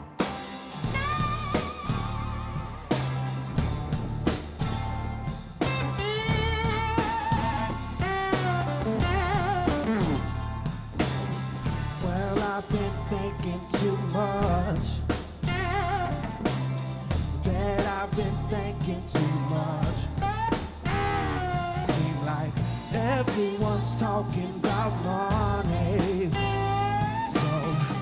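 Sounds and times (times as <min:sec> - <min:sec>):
bass: 0:00.0 - 0:28.0
drum kit: 0:00.0 - 0:28.0
electric guitar lead: 0:00.0 - 0:28.0.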